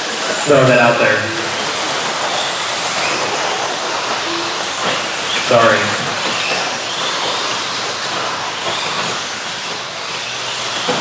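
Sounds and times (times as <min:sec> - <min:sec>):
electric model trucks whirring: 0:00.0 - 0:11.0
motor whines: 0:00.0 - 0:11.0.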